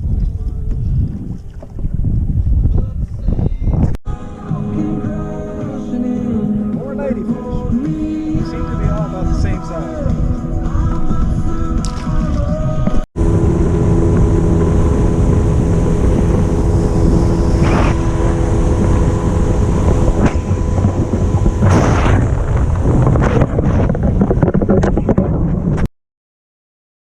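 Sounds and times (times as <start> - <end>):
wind buffeting microphone: 0.0 - 4.0, 7.0 - 25.9
boat motor rumbling: 4.1 - 25.8.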